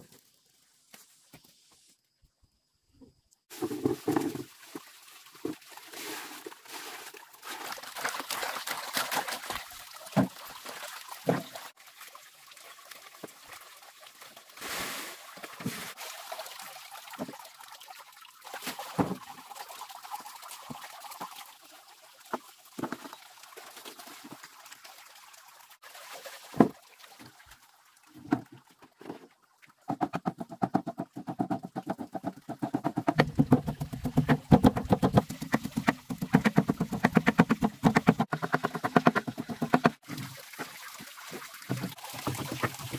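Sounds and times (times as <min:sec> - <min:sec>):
water splashing and trickling: 0:03.4 - 0:42.9.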